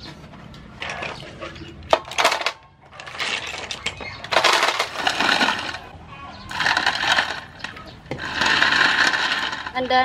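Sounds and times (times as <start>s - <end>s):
shells clattering in metal basin: 0.8s - 5.9s, 6.5s - 10.0s.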